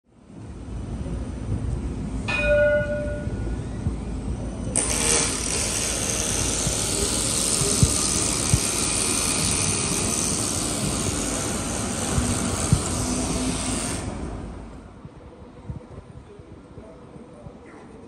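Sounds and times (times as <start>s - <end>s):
light rail vehicle rumble: 0.1s - 17.5s
steady rushing noise: 0.1s - 17.6s.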